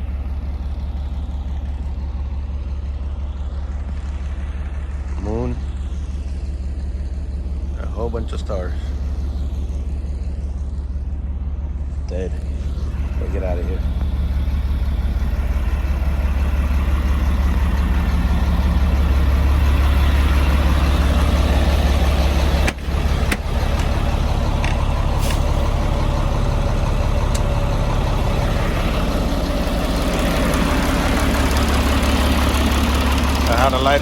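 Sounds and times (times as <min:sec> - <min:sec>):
truck diesel engine droning: 0:00.0 - 0:34.0.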